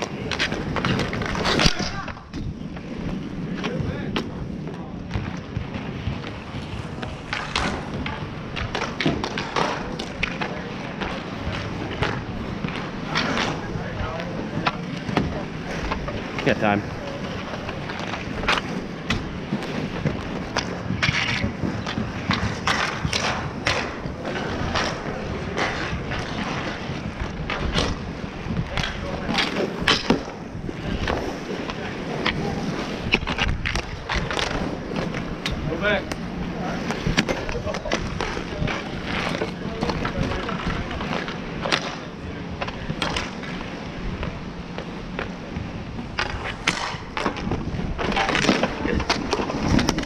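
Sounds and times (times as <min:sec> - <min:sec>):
hockey sticks clacking: 0:00.0 - 0:50.0
skate wheels rolling on asphalt: 0:00.0 - 0:50.0.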